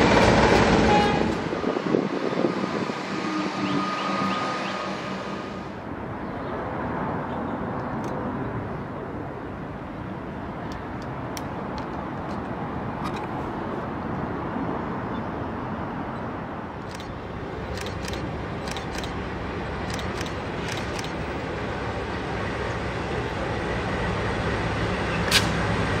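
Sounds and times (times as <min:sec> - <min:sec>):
rumble of passing vehicles: 0:00.0 - 0:26.0.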